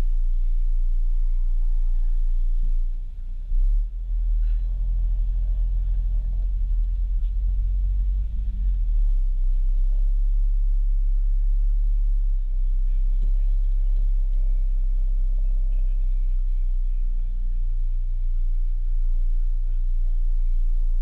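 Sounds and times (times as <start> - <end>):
car engine idling and pulling: 0.0 - 21.0.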